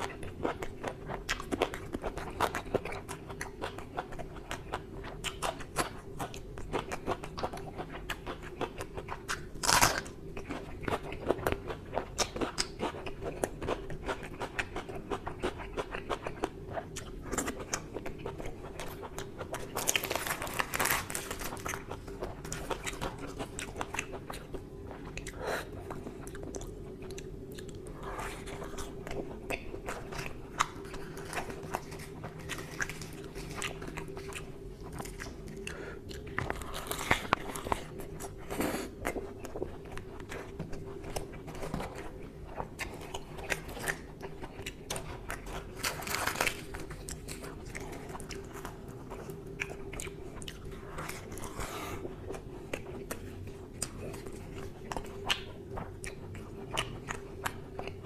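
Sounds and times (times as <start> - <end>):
close-miked chewing: 0.0 - 58.0
low steady hum: 0.0 - 58.0.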